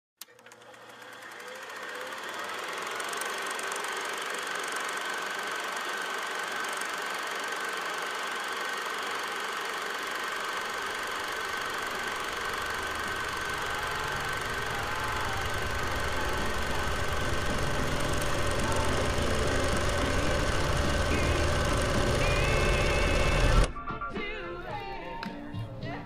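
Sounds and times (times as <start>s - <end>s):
film projector whirring and clattering: 0.2s - 23.7s
thin steady whine: 0.3s - 23.8s.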